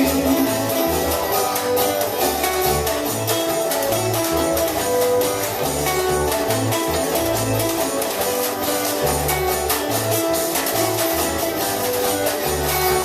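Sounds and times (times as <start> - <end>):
strummed guitar: 0.0 - 13.0
walking bass line: 0.0 - 13.0.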